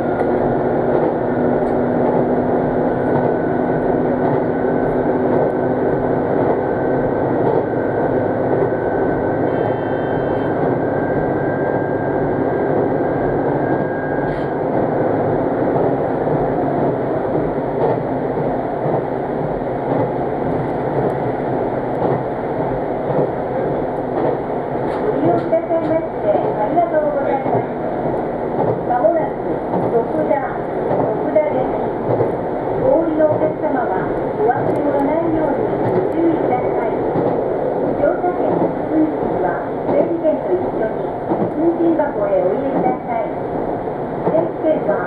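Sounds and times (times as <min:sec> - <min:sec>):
railcar engine and rail rumble: 0:00.0 - 0:45.0.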